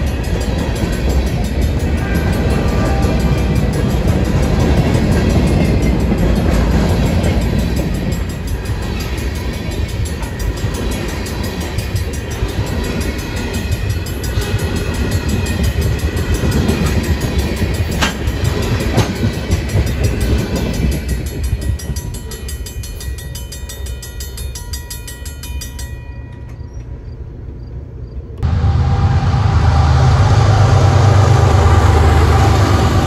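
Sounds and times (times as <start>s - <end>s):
crossing signal bell ringing: 0.0s - 26.9s
wheels clicking over rail joints: 0.0s - 27.0s
freight train rumbling and clanking: 0.0s - 33.0s.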